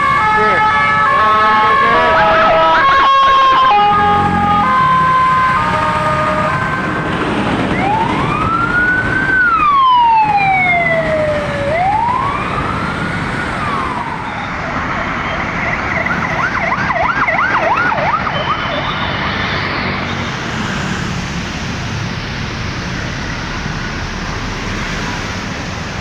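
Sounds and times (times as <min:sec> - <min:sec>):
ambulance siren: 0:00.0 - 0:21.5
traffic noise: 0:00.0 - 0:26.0.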